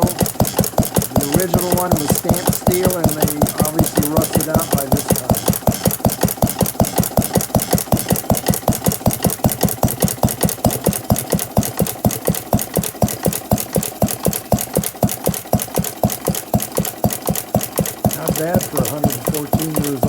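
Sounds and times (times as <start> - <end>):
small gas engine chuffing: 0.0 - 20.0.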